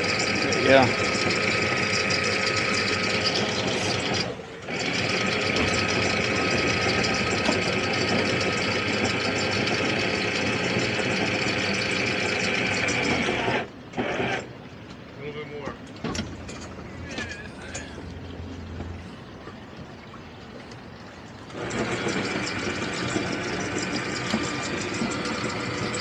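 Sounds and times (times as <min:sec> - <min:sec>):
anchor windlass motor whirring: 0:00.0 - 0:14.6, 0:16.0 - 0:26.0.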